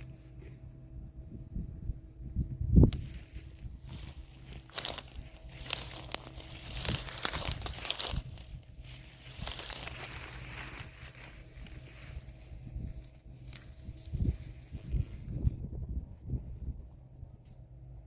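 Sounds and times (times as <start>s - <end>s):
dry rustling and crinkling: 0.0s - 18.0s
faint low hum: 0.0s - 18.0s.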